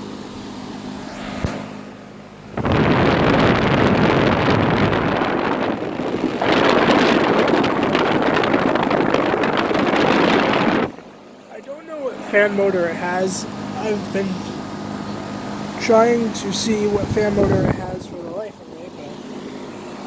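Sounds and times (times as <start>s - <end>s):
air conditioner condenser humming: 0.0s - 20.0s
air buffeting microphone: 1.0s - 20.0s.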